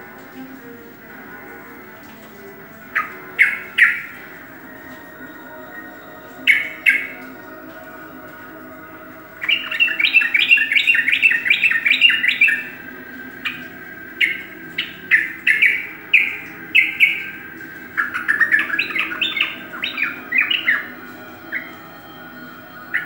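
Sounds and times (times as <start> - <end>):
bulbul singing: 0.0 - 23.0
faint steady hum: 0.0 - 23.0.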